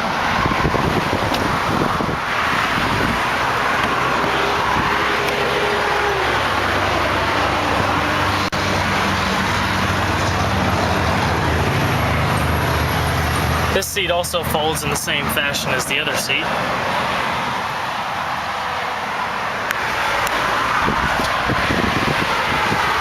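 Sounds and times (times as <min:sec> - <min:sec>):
low engine hum: 0:00.0 - 0:23.0
road traffic noise: 0:00.0 - 0:23.0.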